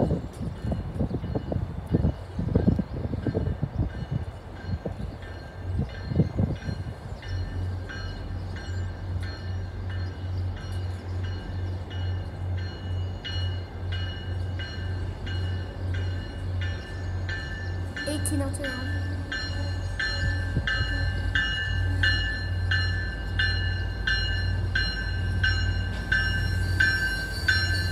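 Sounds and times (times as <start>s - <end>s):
railway bell clanging: 0.0s - 27.9s.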